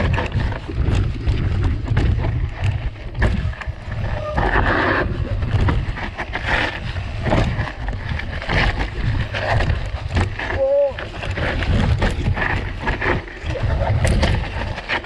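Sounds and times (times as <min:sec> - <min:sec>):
bike tyres clicking and knocking: 0:00.0 - 0:15.0
wind buffeting microphone: 0:00.0 - 0:15.0.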